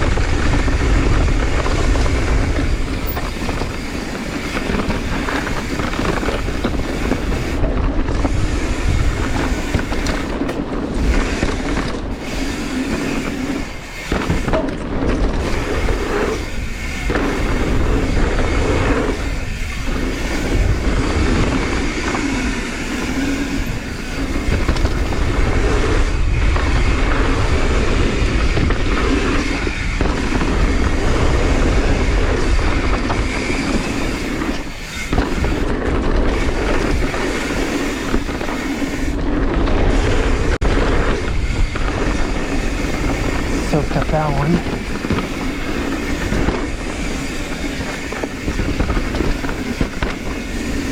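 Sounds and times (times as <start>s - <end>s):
bike rattling: 0.0s - 50.9s
tyres rumbling on dirt: 0.0s - 50.9s
wind noise on microphone: 0.0s - 50.9s.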